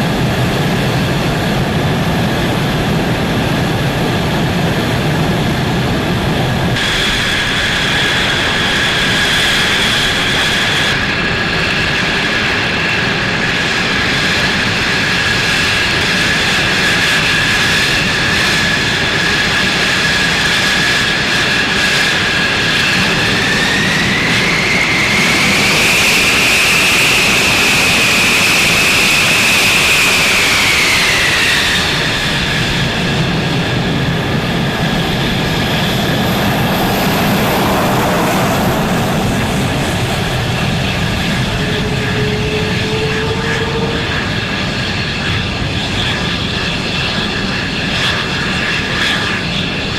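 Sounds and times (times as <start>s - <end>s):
jet engine turbine whine: 0.0s - 49.9s.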